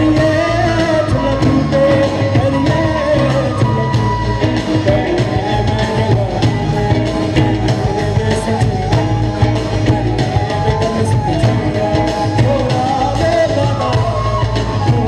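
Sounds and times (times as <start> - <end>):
electric guitar: 0.0 - 15.0
person singing: 0.0 - 15.0
steady drum beat: 0.0 - 15.0.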